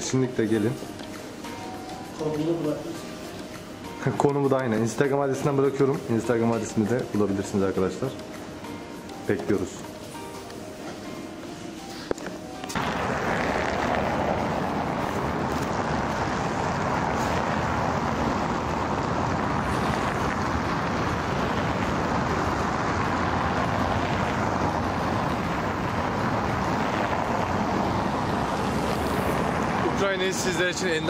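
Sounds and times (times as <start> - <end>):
cars driving on cobblestones: 0.0 - 31.0.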